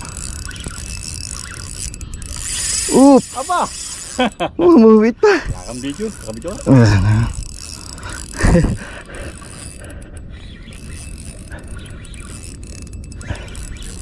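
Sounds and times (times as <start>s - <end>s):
fishing reel whirring: 0.0s - 14.0s.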